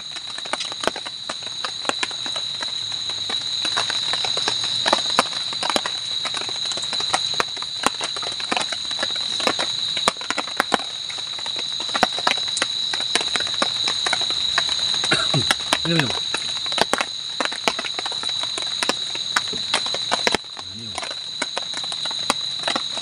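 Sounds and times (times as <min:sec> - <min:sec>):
night insects droning: 0:00.0 - 0:23.0.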